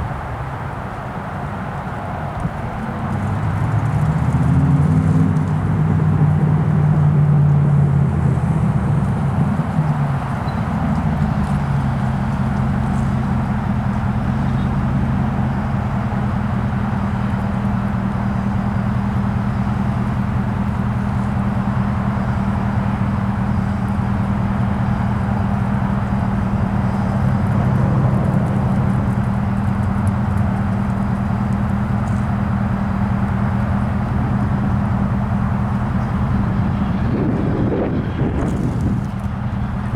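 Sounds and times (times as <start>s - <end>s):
diesel locomotive engines running: 0.0s - 39.9s.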